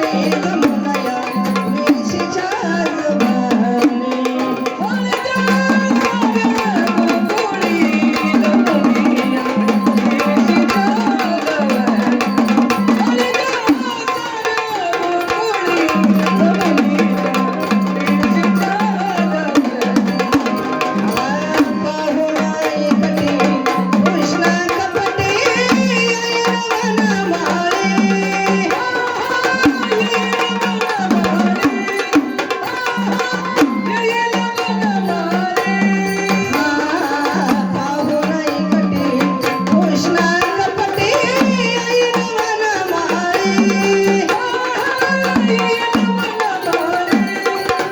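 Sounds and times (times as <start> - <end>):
drums beaten with sticks: 0.0 - 47.9.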